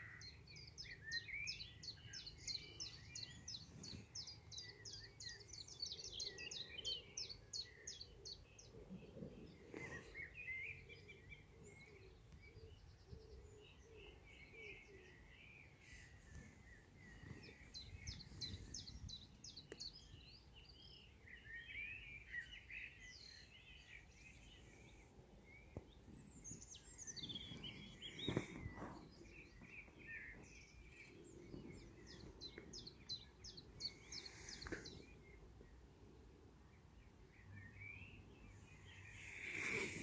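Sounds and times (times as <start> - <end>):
faint birdsong: 0.0 - 40.0.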